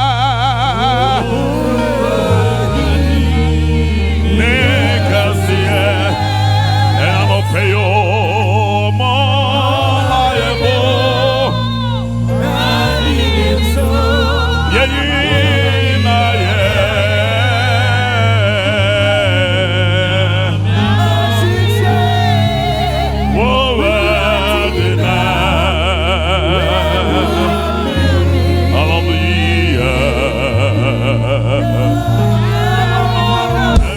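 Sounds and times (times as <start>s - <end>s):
held bass notes: 0.0s - 33.9s
voices singing gospel: 0.0s - 33.9s.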